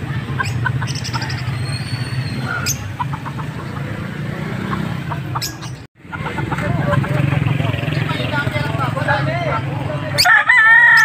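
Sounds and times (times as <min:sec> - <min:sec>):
engine humming: 0:00.0 - 0:10.2
small birds chirping: 0:00.0 - 0:10.3.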